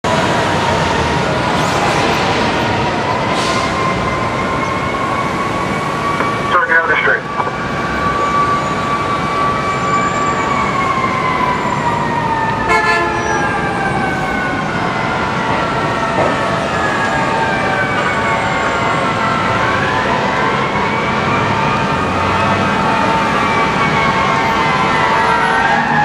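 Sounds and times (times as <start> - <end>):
city traffic noise: 0.0 - 26.0
fire truck siren wailing: 0.0 - 26.0.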